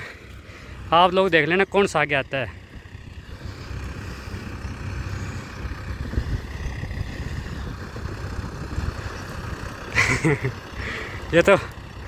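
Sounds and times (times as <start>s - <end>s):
tractor diesel engines rumbling: 0.0s - 12.0s.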